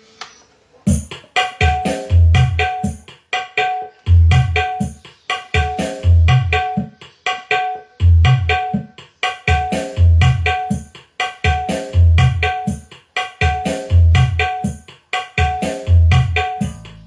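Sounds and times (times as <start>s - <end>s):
drum-led music with deep bass: 0.9s - 17.0s.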